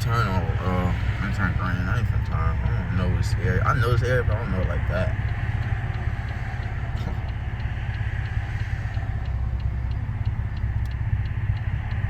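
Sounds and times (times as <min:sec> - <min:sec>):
car exhaust rumble: 0:00.0 - 0:12.0.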